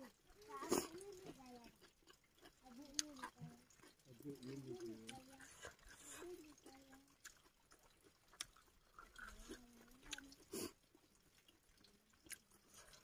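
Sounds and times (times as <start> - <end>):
close-up chewing: 0.0 - 13.0.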